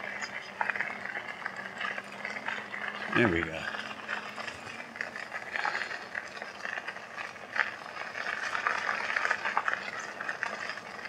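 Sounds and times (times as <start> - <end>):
bike tyres rolling over gravel: 0.0 - 11.0.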